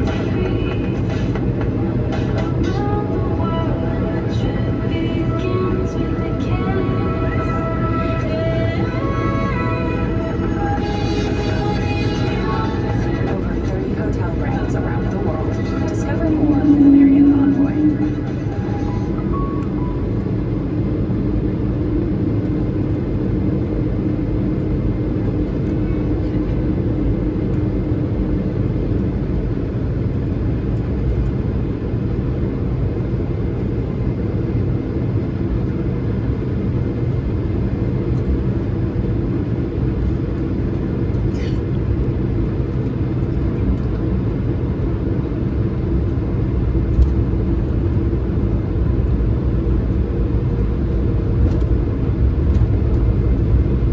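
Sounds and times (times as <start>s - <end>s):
jet engines idling in cabin: 0.0s - 53.9s.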